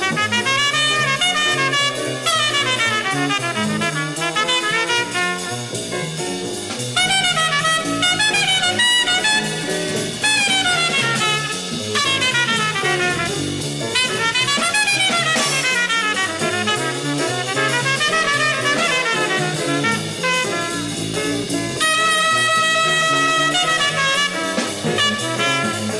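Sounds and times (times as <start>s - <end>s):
bebop jazz band playing: 0.0s - 25.9s
fast saxophone solo: 0.0s - 25.9s.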